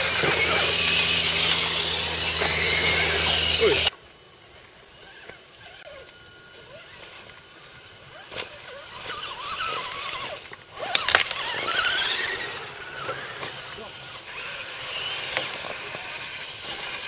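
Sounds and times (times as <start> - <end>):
rc truck motors whining: 0.0 - 17.0.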